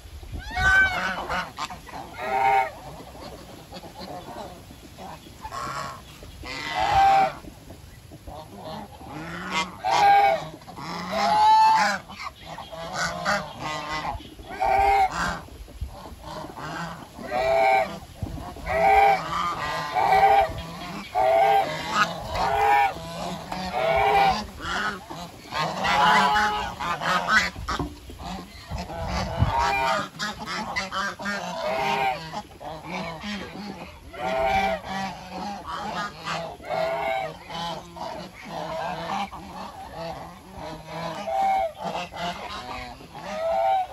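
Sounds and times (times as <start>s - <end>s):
geese honking: 0.4s - 7.5s, 8.3s - 43.9s.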